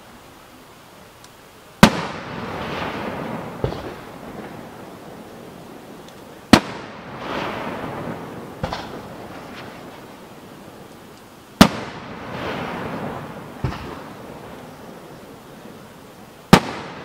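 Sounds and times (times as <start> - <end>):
firework shells booming: 1.8 - 11.0, 11.6 - 15.8, 16.5 - 17.0
fainter firework bangs: 1.8 - 17.0.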